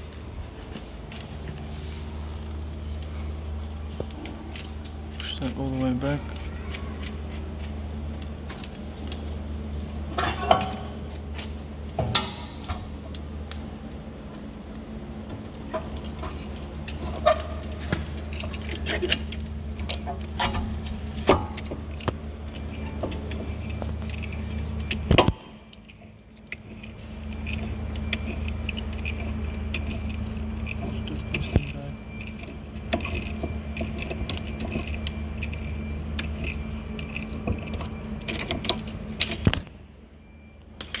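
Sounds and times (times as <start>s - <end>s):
steady low hum: 0.0s - 41.0s
metal tools clinking: 4.1s - 12.9s, 15.6s - 39.6s, 40.8s - 41.0s.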